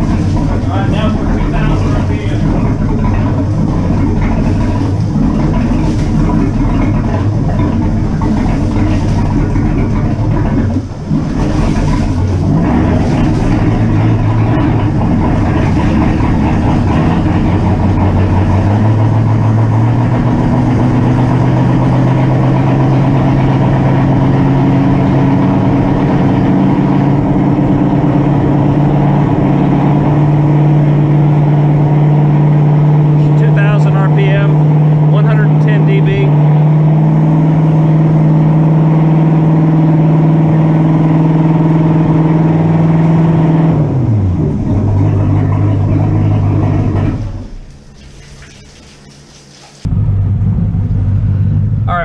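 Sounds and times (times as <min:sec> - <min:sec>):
boat engine revving: 0:00.0 - 0:52.0.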